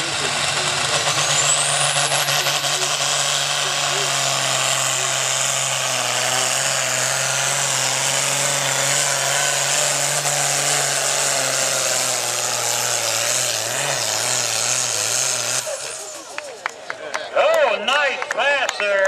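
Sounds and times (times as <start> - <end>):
tractor engine running flat out: 0.0 - 17.3.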